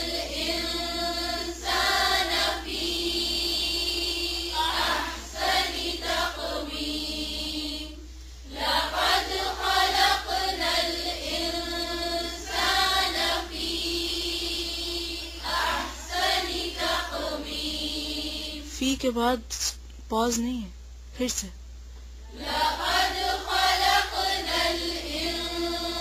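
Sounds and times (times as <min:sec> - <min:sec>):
voices chanting in unison: 0:00.0 - 0:18.7, 0:22.3 - 0:26.0.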